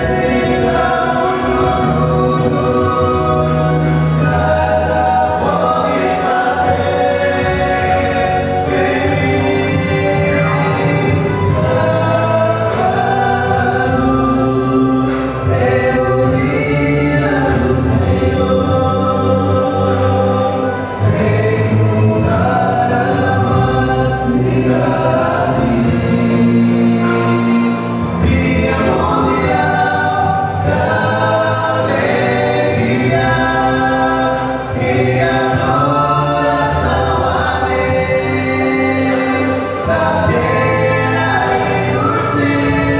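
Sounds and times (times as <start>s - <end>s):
male vocal quartet singing: 0.0s - 42.9s.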